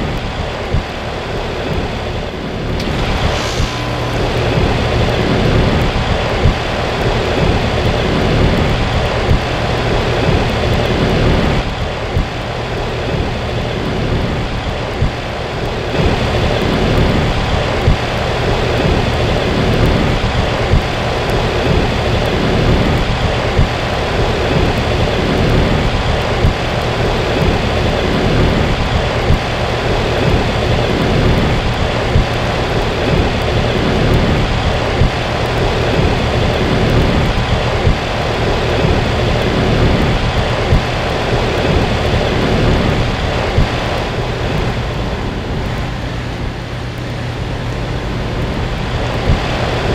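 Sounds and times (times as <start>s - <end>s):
compressor hum: 0.0s - 49.9s
loud rushing hiss: 0.0s - 49.9s.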